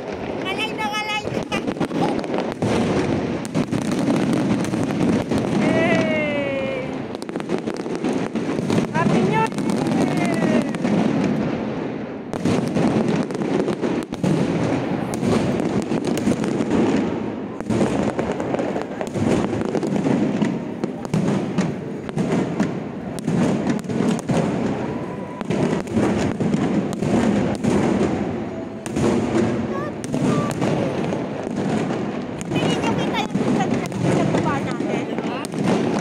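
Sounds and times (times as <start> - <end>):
firework shell bursts and crackles: 0.0 - 36.0.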